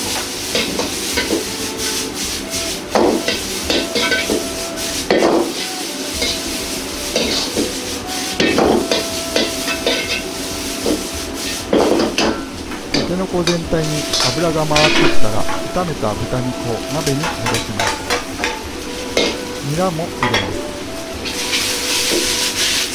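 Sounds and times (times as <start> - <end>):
food sizzling in oil: 0.0 - 22.9.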